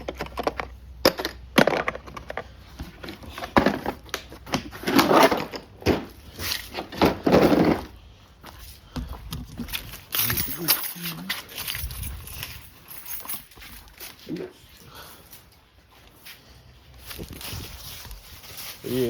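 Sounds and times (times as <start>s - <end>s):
crunching and rustling of gear: 1.7s - 19.0s.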